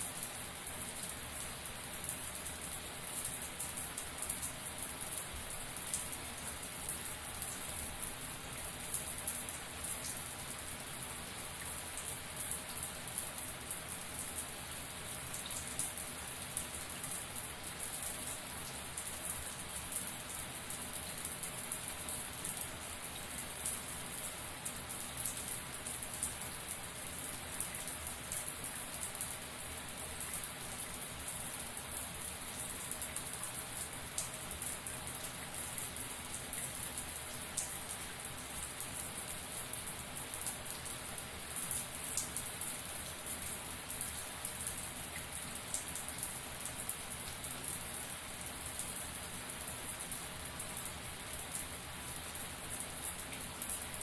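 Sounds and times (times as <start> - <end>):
shower running: 0.0 - 54.0.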